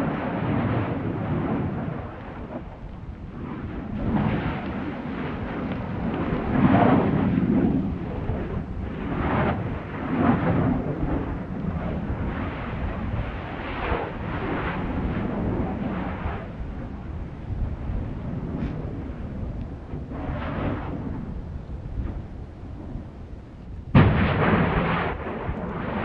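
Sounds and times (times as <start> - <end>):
volcano deep rumble: 0.0 - 26.0.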